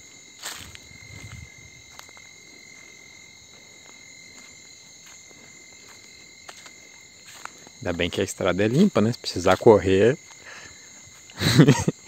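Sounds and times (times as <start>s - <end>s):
footsteps on dirt road: 0.0s - 11.4s
crickets and insects chirring: 0.0s - 12.0s.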